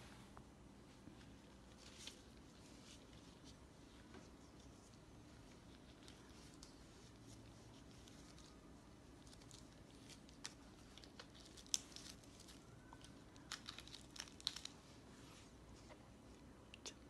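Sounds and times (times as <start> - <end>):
faint clicks and rustles: 0.2 - 16.8.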